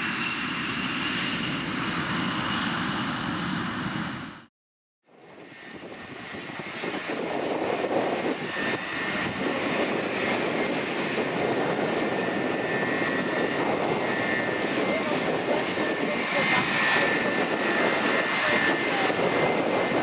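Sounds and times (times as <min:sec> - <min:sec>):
jet engines running: 0:00.0 - 0:04.5, 0:05.2 - 0:20.0.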